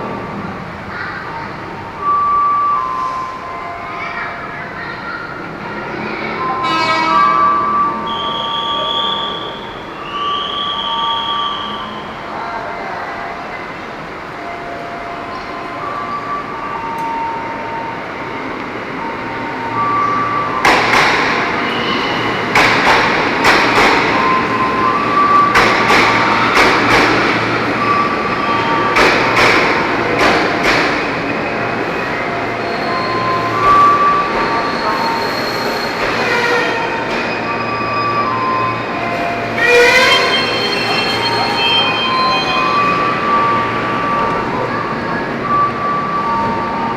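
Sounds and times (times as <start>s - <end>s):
electric train rumbling: 0.0s - 46.9s.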